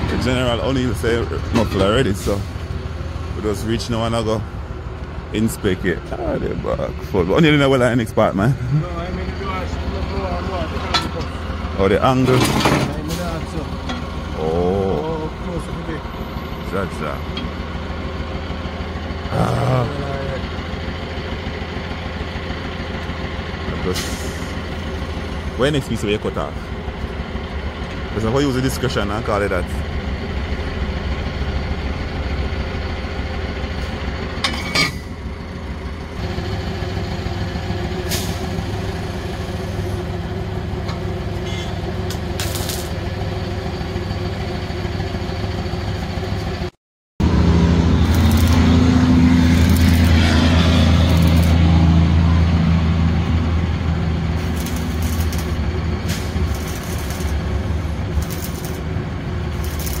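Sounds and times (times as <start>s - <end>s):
road noise: 0.0s - 60.0s
vehicle engine running: 0.0s - 60.0s.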